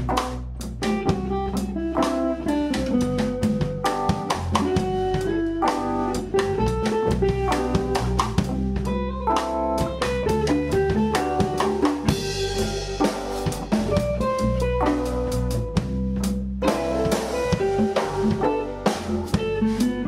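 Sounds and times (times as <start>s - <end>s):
bass guitar: 0.0s - 20.0s
electric guitar: 0.0s - 20.0s
rock music: 0.0s - 20.0s
steady drum beat: 0.0s - 20.0s.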